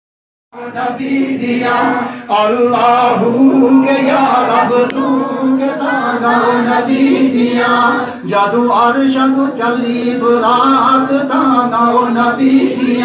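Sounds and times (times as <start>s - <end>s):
men singing devotional chant: 0.6s - 13.0s.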